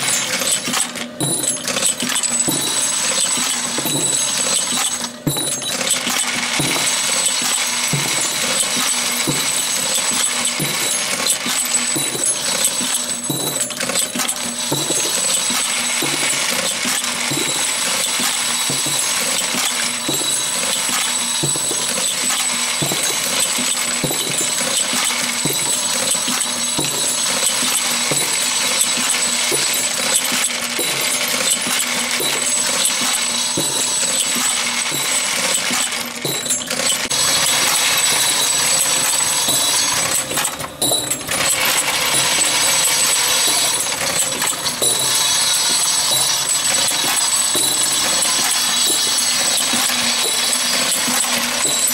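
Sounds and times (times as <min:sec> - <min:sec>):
machine mechanical clatter: 0:00.0 - 0:51.9.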